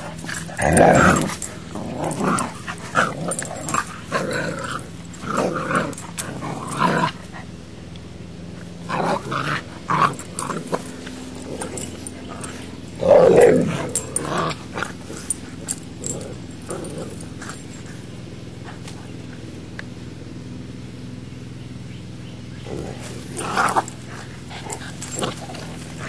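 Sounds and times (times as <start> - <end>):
dogs growling: 0.0 - 7.6, 8.5 - 19.4, 22.6 - 26.0.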